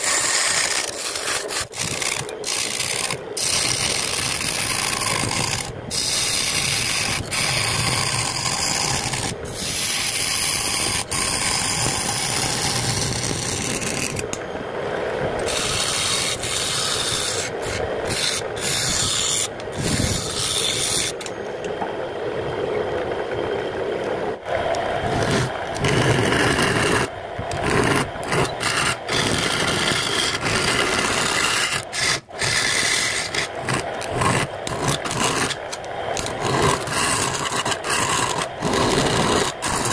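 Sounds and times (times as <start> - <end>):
chisel scraping wood on lathe: 0.0 - 14.4, 15.4 - 21.3, 25.0 - 39.9.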